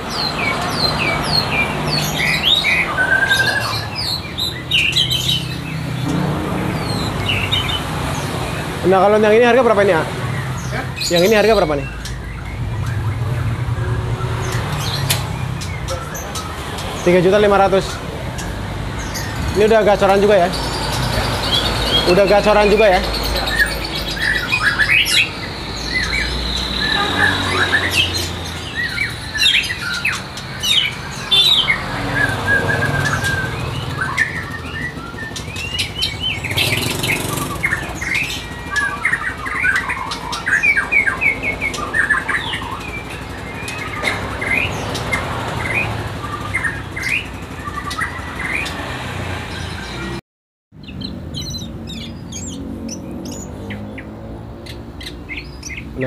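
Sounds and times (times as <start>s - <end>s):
other songbirds chirping: 0.0s - 50.2s, 50.8s - 56.0s.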